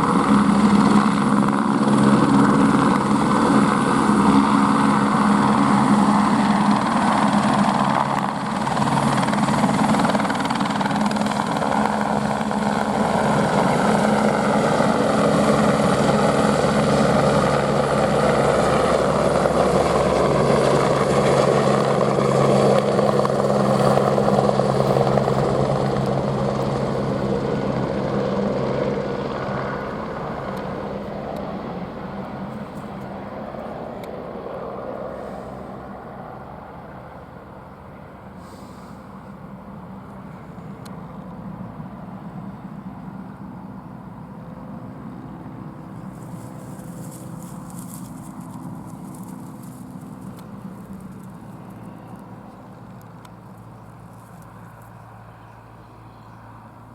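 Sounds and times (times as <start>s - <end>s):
helicopter rotor and turbine: 0.0s - 38.4s, 39.0s - 56.9s.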